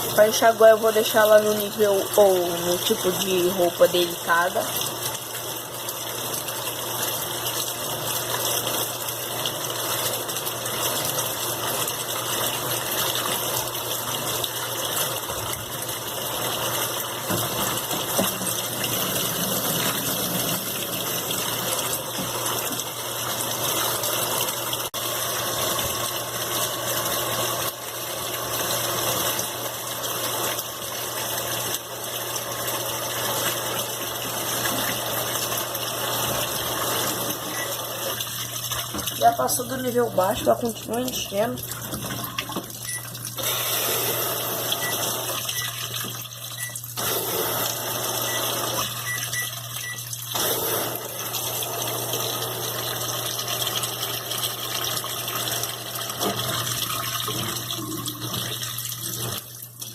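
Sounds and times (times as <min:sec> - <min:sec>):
water rushing into washing machine: 0:00.0 - 0:59.9.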